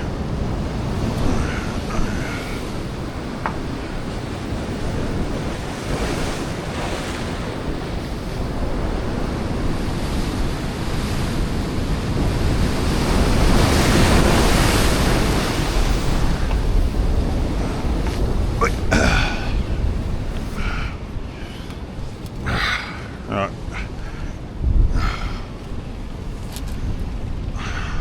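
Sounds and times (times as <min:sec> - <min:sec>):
waves washing over rocks: 0:00.0 - 0:28.0
wind buffeting microphone: 0:00.0 - 0:28.0.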